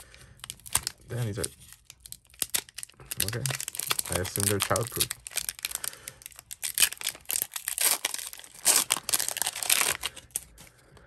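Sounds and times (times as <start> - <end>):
foil wrapper tearing and crinkling: 0.3 - 10.7.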